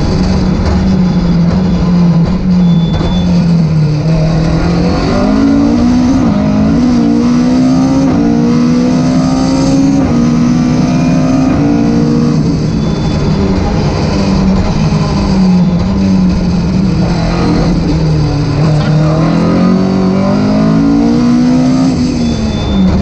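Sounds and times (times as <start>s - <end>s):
rally car engine revving: 0.0s - 23.0s
road and wind noise: 0.0s - 23.0s.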